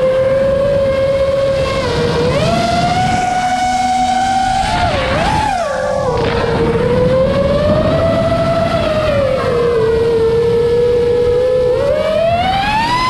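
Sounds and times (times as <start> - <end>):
drone motors whining: 0.0 - 13.0
steady rushing noise: 0.0 - 13.0.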